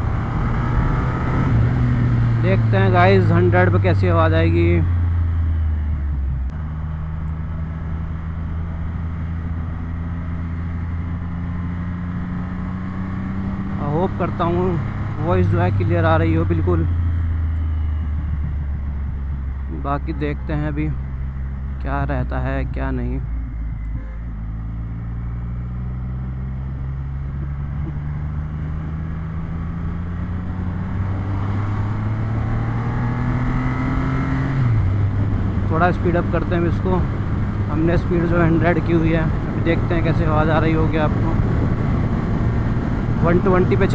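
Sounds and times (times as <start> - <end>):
motorcycle engine cruising: 0.0 - 43.9.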